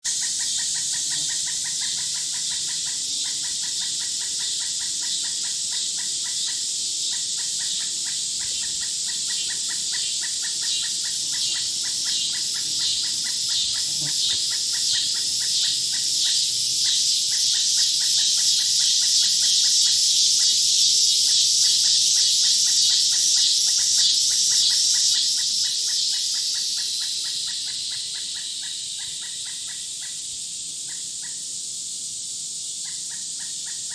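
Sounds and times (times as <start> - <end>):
high buzzing insect chorus: 0.0 - 33.9
insects chirping in pulsed trill: 0.1 - 33.9.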